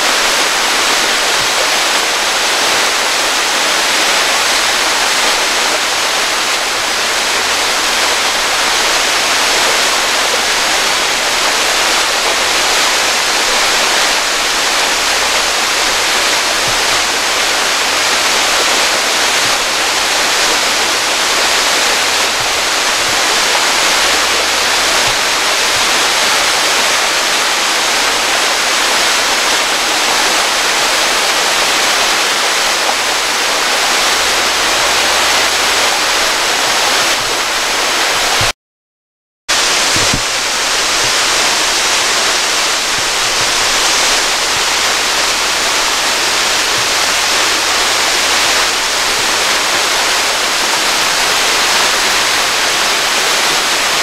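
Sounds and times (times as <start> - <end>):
waterfall splashing on rocks: 0.0 - 38.5, 39.5 - 54.0.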